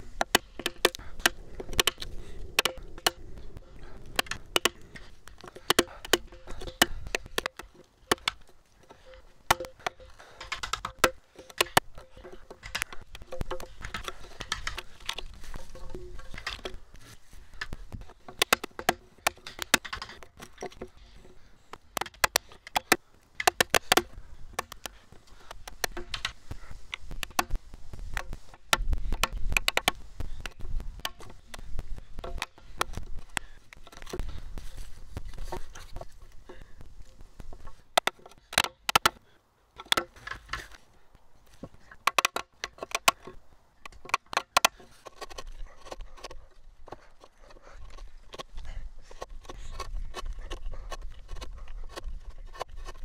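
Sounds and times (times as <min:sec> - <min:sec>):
chisel scraping wood chips: 0:03.8 - 0:36.8, 0:41.5 - 0:53.0.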